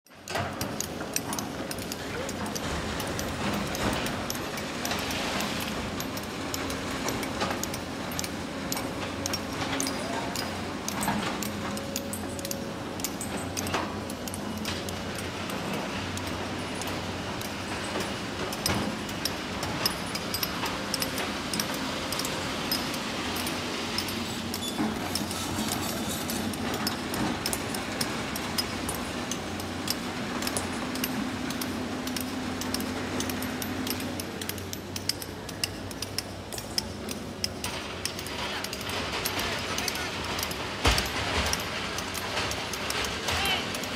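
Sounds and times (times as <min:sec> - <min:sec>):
heavy diesel engines humming: 0:00.3 - 0:43.9.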